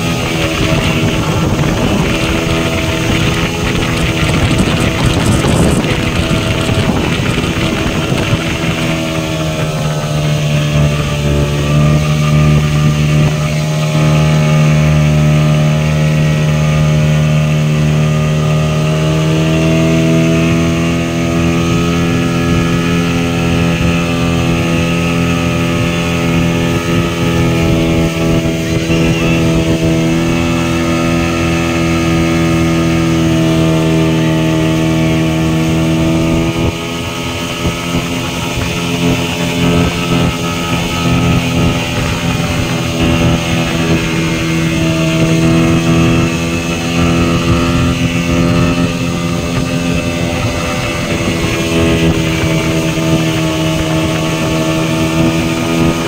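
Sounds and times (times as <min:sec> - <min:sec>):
rushing wake and wind: 0:00.0 - 0:56.0
speedboat engine running: 0:00.0 - 0:56.0.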